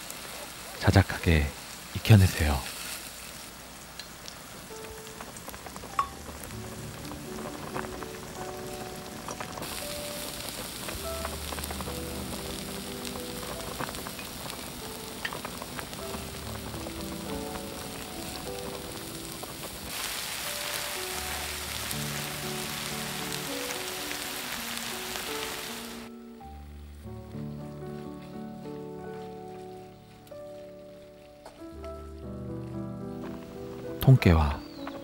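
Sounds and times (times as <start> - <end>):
vegetables sizzling in a wok: 0.0 - 27.1, 27.8 - 31.6
soft background music: 4.5 - 35.0.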